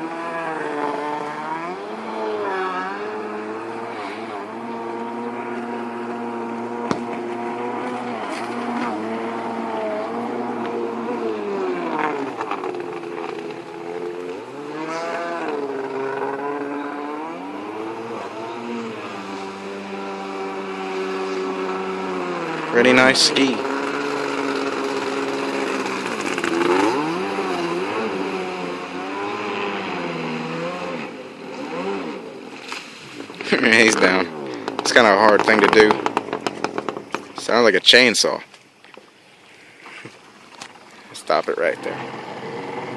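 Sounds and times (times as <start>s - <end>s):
jet ski engine revving: 0.0s - 37.7s, 41.1s - 42.9s.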